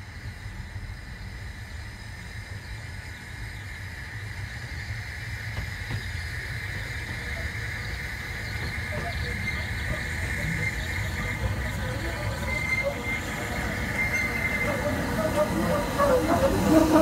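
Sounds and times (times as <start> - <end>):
steam hiss: 0.0 - 17.0
steam locomotive rumble: 0.0 - 17.0.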